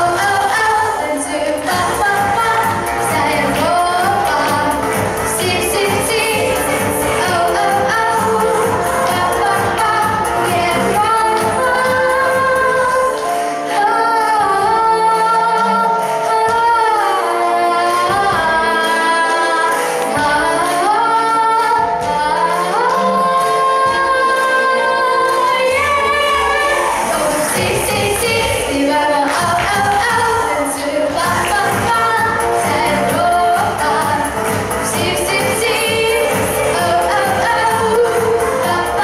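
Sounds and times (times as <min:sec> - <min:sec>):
instrumental backing track: 0:00.0 - 0:39.0
woman singing: 0:00.0 - 0:39.0.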